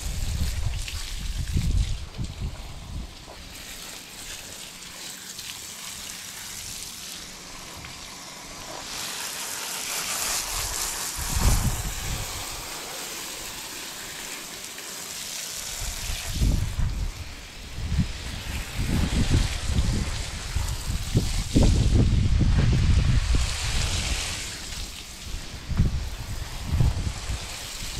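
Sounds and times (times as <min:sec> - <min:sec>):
hose spraying water: 0:00.0 - 0:27.9.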